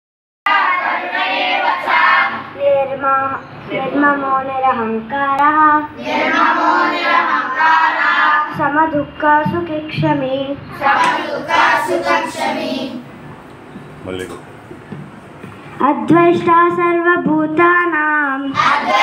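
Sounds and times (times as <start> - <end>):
child chanting: 0.5 - 13.0, 16.0 - 19.0.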